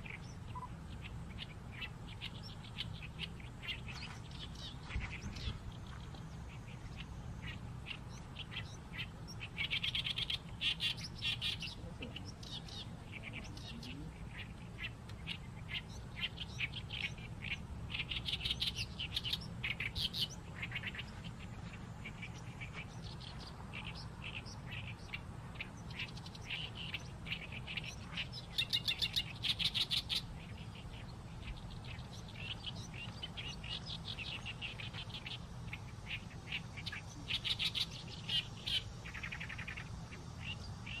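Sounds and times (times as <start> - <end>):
low background hum: 0.0 - 41.0
reed warbler singing: 0.0 - 41.0.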